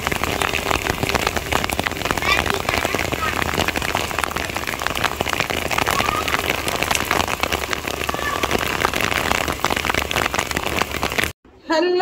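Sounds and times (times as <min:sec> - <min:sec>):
heavy rain on concrete and water: 0:00.0 - 0:11.4.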